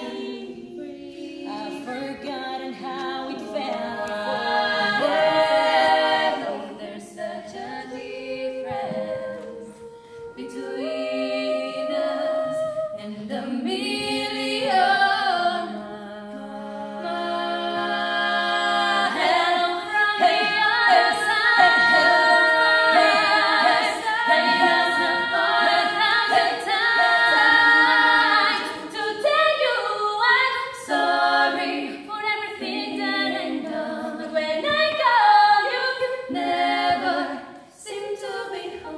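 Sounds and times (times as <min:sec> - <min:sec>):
women singing in harmony: 0:00.0 - 0:38.9.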